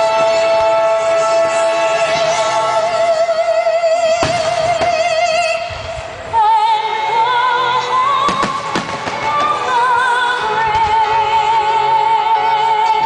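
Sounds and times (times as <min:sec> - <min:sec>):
operatic singing over music: 0:00.0 - 0:13.0.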